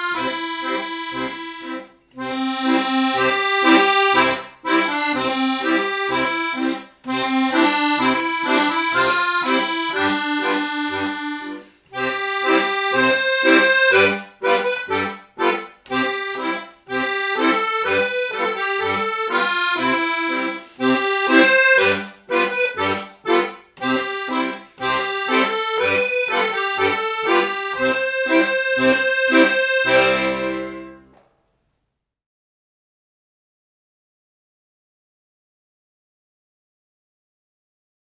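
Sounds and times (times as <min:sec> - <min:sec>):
accordion playing folk tune: 0:00.0 - 0:31.2.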